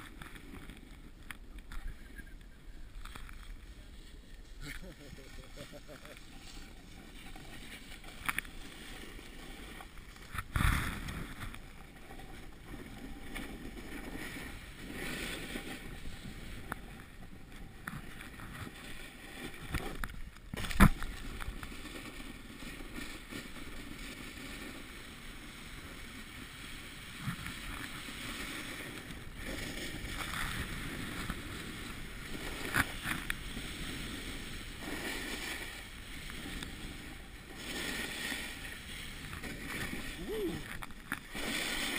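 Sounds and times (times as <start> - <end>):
snowboard scraping packed snow: 0.0 - 41.9.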